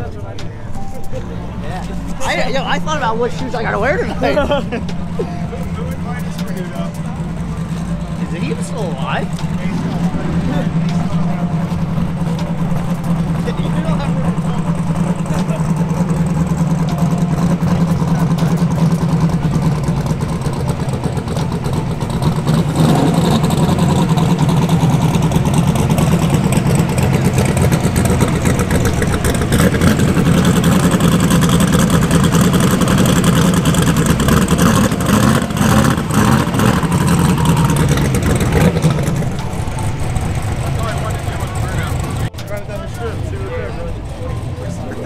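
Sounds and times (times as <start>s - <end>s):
car engine idling loudly: 0.0s - 45.0s.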